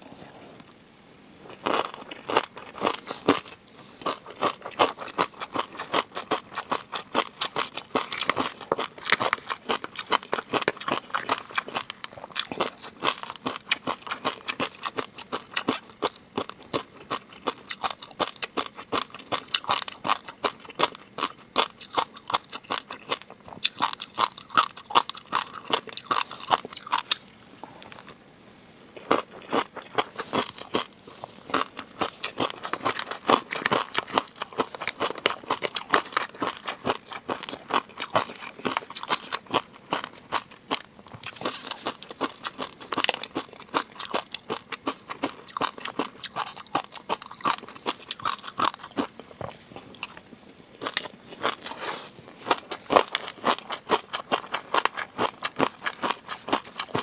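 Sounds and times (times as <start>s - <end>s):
chewing with crunching: 1.5s - 28.2s, 29.0s - 57.0s.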